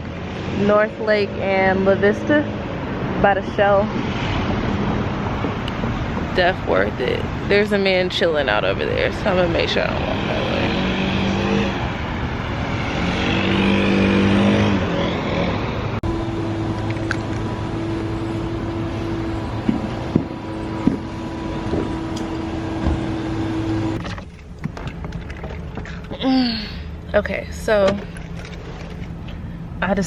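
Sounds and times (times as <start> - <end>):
vehicle engine passing: 0.0 - 26.1.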